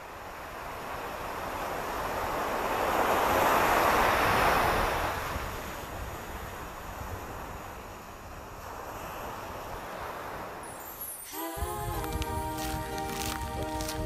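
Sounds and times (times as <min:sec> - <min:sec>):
wave breaking on a beach: 0:00.0 - 0:14.0
wind rumble on microphone: 0:00.1 - 0:10.6, 0:11.5 - 0:14.0.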